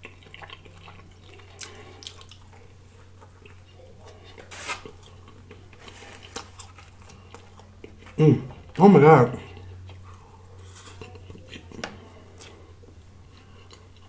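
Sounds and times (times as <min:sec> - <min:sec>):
wet chewing and lip smacking: 0:00.0 - 0:08.2, 0:10.8 - 0:14.0
steady low hum: 0:00.0 - 0:14.0.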